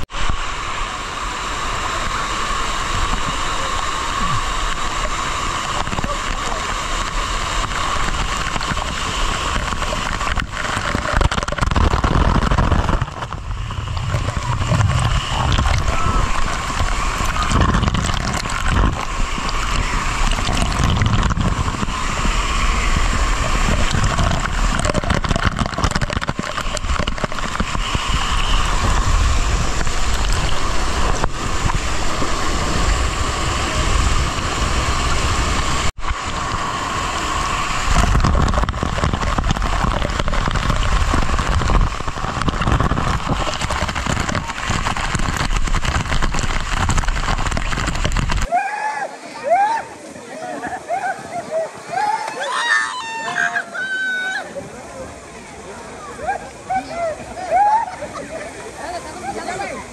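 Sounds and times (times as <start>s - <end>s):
water rushing and gurgling: 0.0s - 59.9s.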